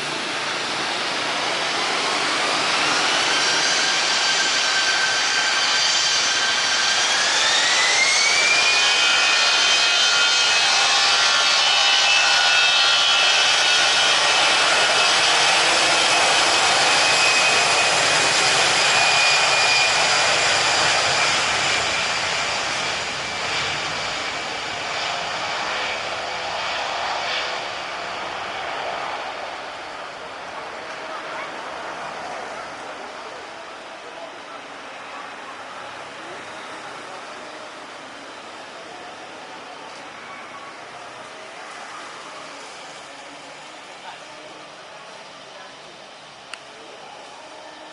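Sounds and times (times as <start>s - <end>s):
jet engines whining: 0.0s - 47.8s.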